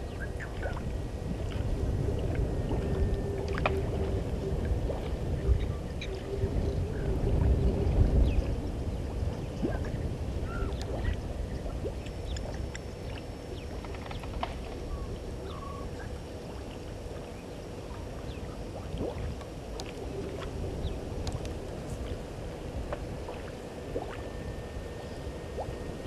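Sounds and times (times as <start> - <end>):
low rumbling noise: 0.0 - 26.0.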